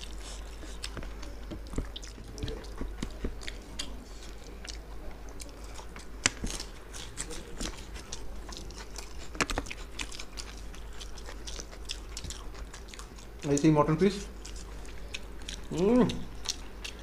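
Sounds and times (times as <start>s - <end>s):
chewing and lip smacks: 0.0s - 17.0s.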